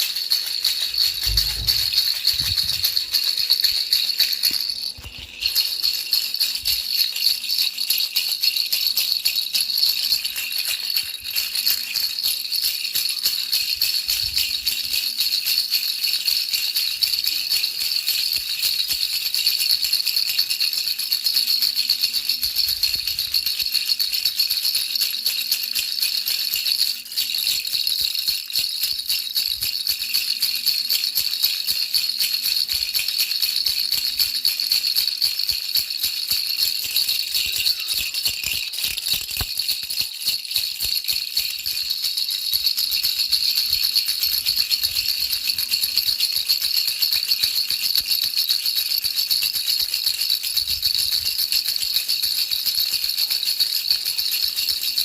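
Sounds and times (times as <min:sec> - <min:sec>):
baby rattle shaking: 0:00.0 - 0:55.0.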